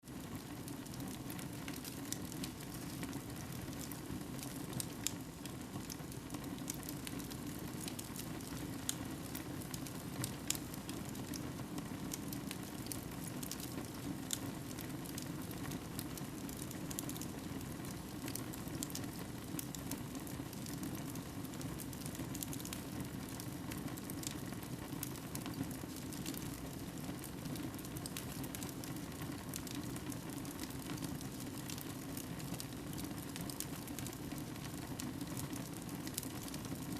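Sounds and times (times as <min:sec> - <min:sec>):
wood fire crackling: 0:00.1 - 0:36.9.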